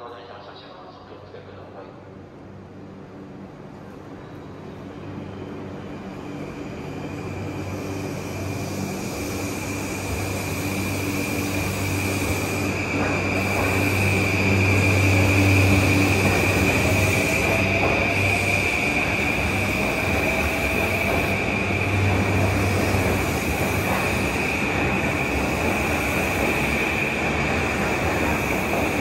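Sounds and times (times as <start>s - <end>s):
electric train pulling away: 4.1s - 29.0s.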